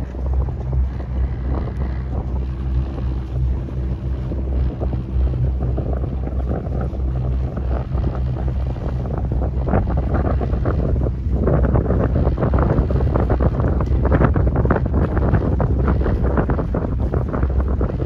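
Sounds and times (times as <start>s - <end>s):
boat engine droning: 0.0s - 18.0s
wind buffeting microphone: 0.0s - 18.0s.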